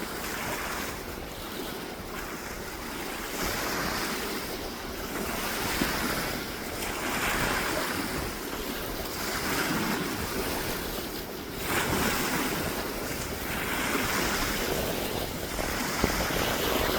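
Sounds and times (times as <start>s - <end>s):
sea waves washing in: 0.0s - 16.9s
wind buffeting microphone: 0.0s - 16.9s.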